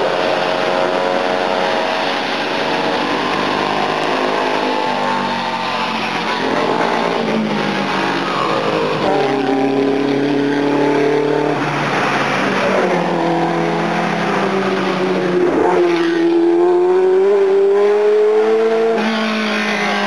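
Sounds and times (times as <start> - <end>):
engine accelerating: 0.0 - 20.0
racing engines running: 0.0 - 20.0.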